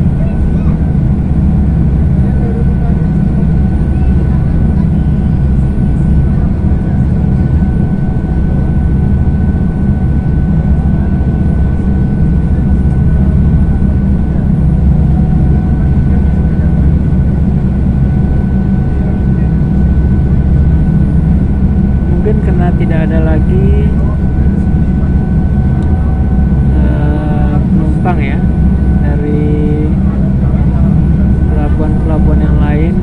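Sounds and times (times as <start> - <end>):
ferry engine drone: 0.0 - 33.0
thin steady whine: 0.0 - 33.0.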